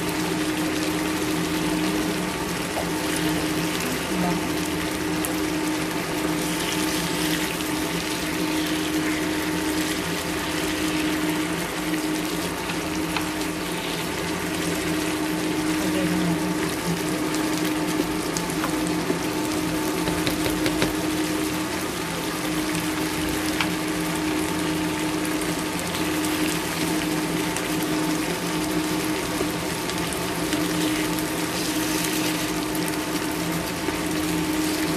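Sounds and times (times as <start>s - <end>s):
cooktop hum: 0.0s - 34.9s
sauce bubbling in a pan: 0.0s - 34.9s.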